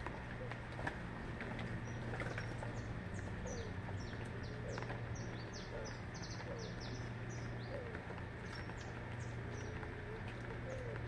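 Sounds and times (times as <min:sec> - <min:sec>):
flock of small birds chirping: 0:00.2 - 0:11.0
lower softer bird calls: 0:01.8 - 0:11.0.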